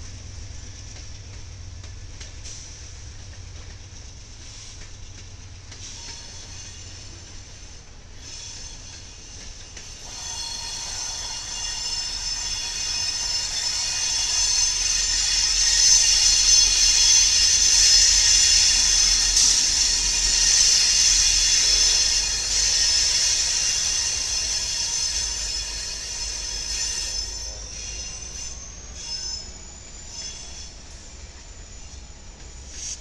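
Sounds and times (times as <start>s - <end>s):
train rolling rumble: 0.0s - 33.0s
train wheels squealing: 0.3s - 33.0s.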